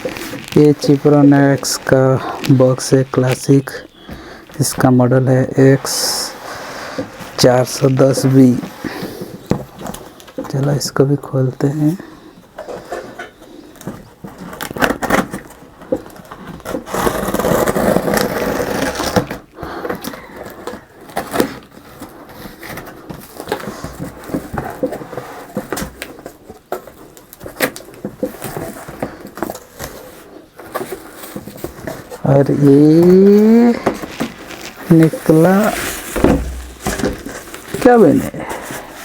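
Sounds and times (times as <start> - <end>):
cardboard scraping and rustling: 0.0 - 10.9, 11.8 - 39.0.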